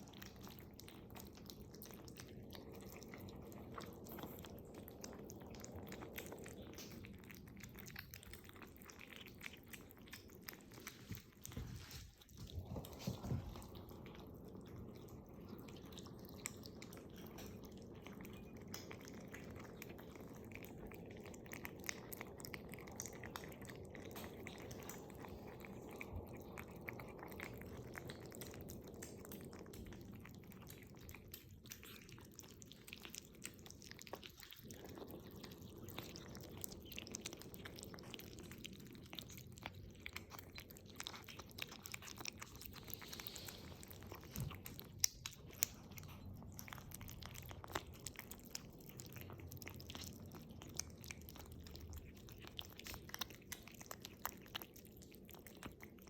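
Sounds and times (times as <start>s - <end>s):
kitten chewing food: 0.0s - 56.0s
low steady hum: 0.0s - 56.0s.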